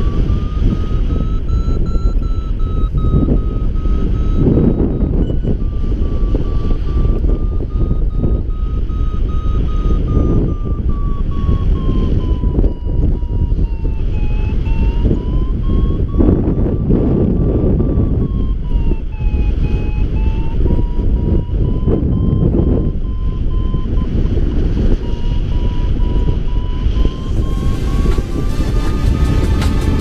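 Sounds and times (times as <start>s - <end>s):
variometer short beeps: 0.0s - 30.0s
wind noise on microphone: 0.0s - 30.0s.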